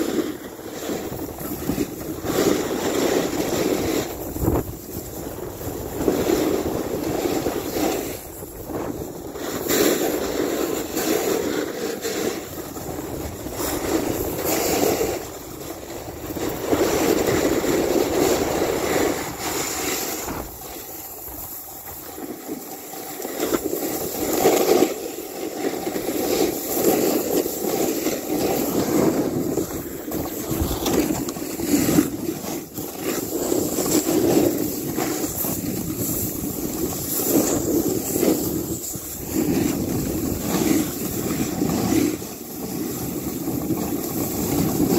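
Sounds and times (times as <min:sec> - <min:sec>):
wind on microphone: 0:00.0 - 0:24.7, 0:25.6 - 0:44.9
snowboard scraping over snow: 0:00.0 - 0:44.9.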